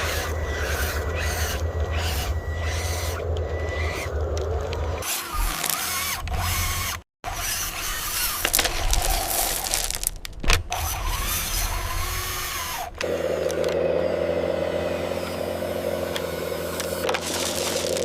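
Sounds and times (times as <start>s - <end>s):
electric motors whining and grinding: 0.0s - 18.0s.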